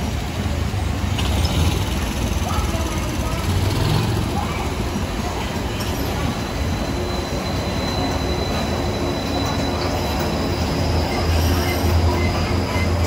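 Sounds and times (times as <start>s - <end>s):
monorail train passing: 0.0s - 13.0s.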